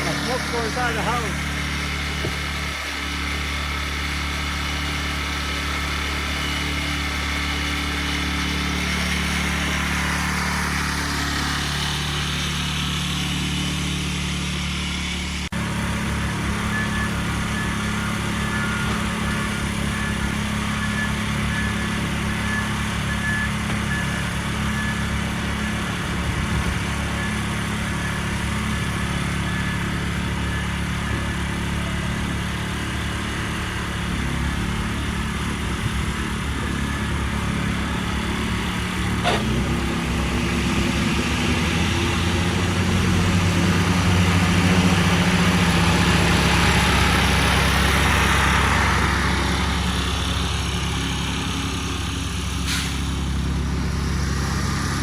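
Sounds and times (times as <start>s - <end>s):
lawnmower engine running: 0.0s - 55.0s.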